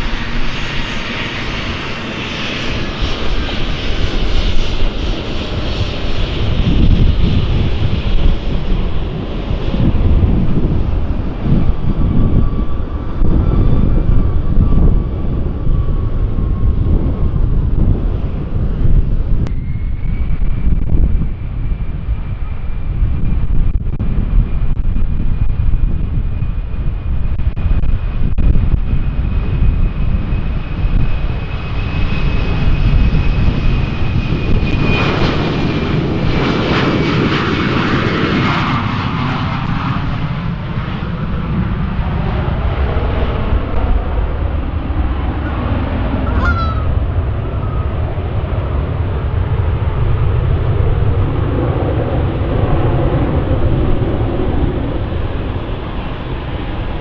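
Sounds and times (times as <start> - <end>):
airliner engines passing: 0.0 - 57.0.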